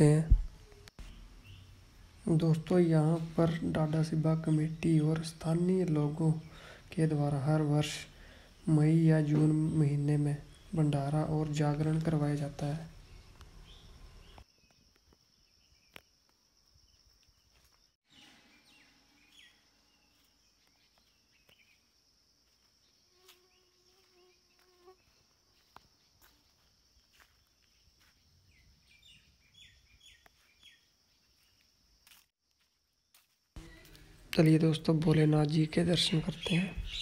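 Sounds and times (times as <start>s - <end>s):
bird chirps: 0.0s - 6.8s, 9.3s - 16.2s, 16.8s - 21.9s, 22.6s - 31.7s, 33.6s - 37.0s.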